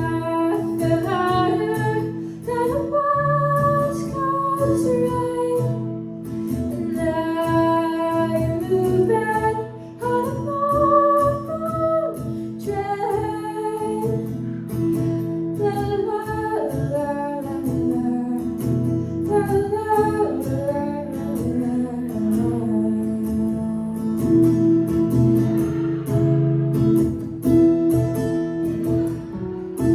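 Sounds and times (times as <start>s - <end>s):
woman singing: 0.0s - 26.0s
plucked acoustic guitar: 0.0s - 29.9s.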